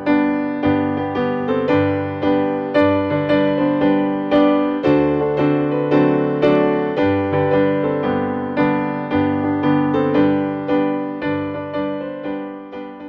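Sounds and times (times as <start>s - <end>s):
solo piano: 0.0s - 13.0s.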